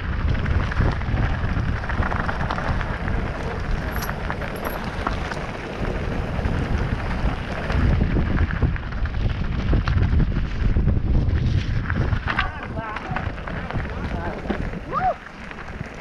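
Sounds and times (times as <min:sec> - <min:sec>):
bike clicks and rattles: 0:00.0 - 0:16.0
tyres rumbling on rock: 0:00.0 - 0:16.0
wind buffeting microphone: 0:00.0 - 0:16.0.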